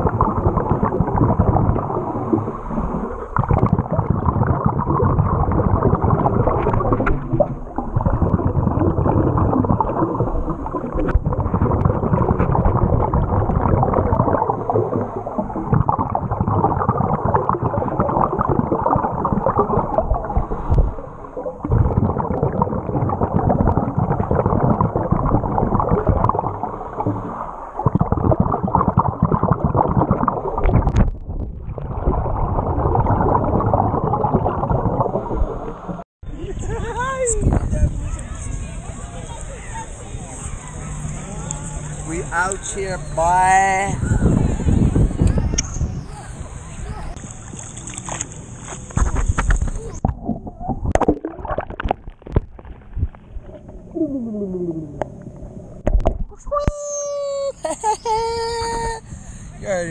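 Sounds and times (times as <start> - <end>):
underwater rumbling and gurgling: 0.0 - 56.7.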